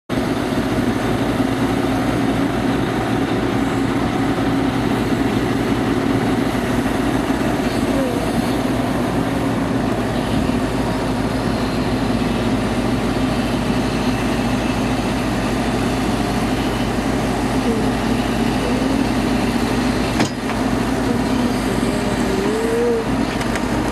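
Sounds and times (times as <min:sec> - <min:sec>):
heavy diesel engine running: 0:00.1 - 0:23.9.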